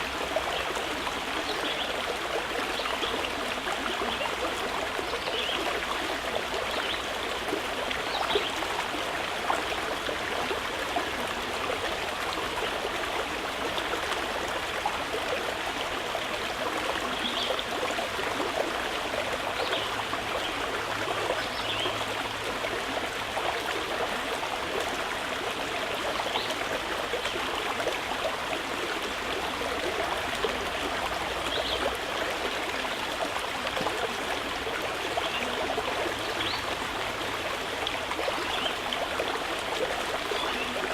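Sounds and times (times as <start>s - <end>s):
stream of water trickling: 0.0s - 40.9s.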